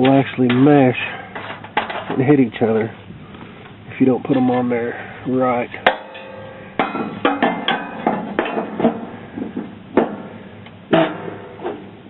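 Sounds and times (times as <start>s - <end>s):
metal mower blades clanking: 0.0s - 3.0s, 4.2s - 5.1s, 5.7s - 11.9s.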